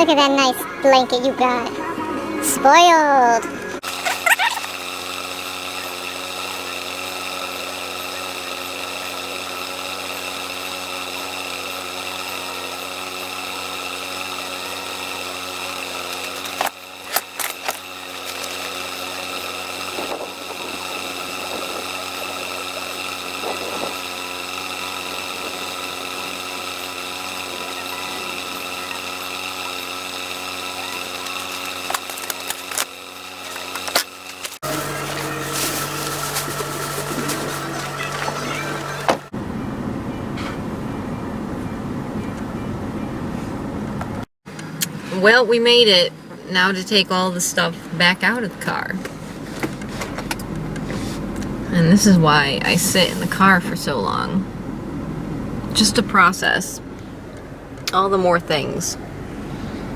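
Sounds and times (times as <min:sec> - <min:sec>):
car engine humming: 0:00.0 - 0:59.9.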